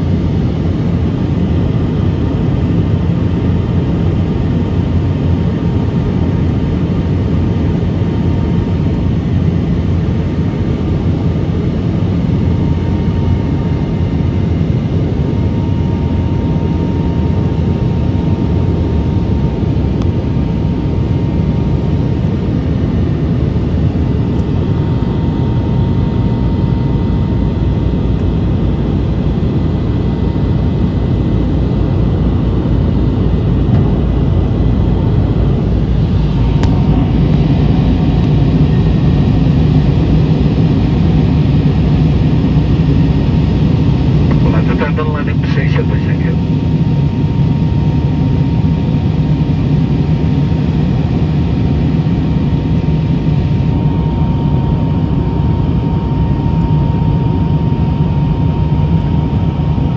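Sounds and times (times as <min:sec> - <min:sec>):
airliner cabin engine noise: 0:00.0 - 0:59.9.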